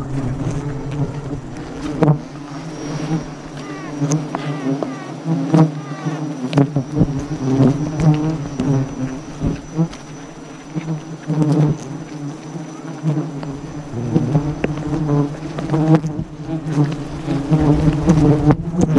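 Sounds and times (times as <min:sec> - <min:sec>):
bee swarm droning: 0:00.0 - 0:18.9
single bees whining past: 0:00.0 - 0:18.9.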